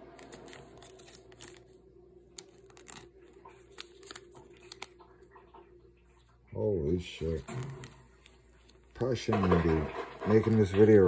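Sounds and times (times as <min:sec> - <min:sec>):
plastic sleeve crinkling: 0:00.0 - 0:05.5, 0:07.1 - 0:11.0
faint steady hum: 0:00.0 - 0:10.8.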